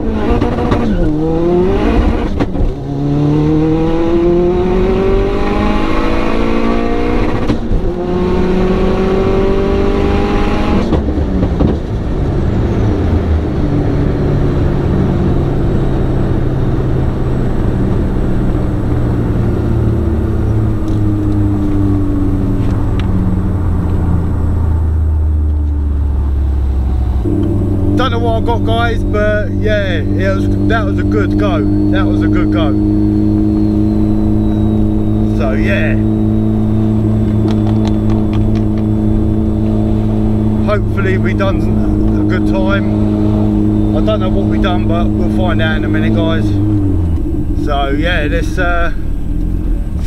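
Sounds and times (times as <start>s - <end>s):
car engine revving hard: 0.0s - 25.0s, 26.0s - 50.0s.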